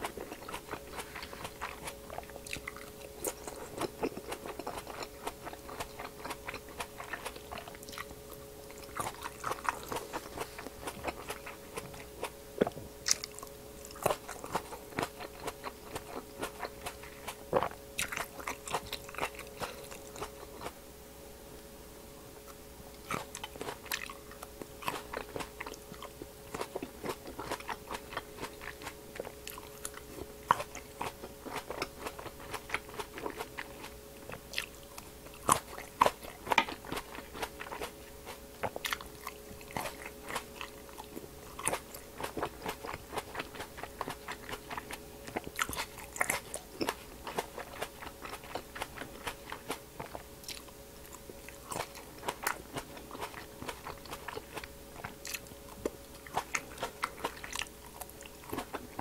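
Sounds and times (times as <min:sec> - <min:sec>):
grapes being chewed: 0:00.0 - 0:20.8, 0:22.4 - 0:59.0.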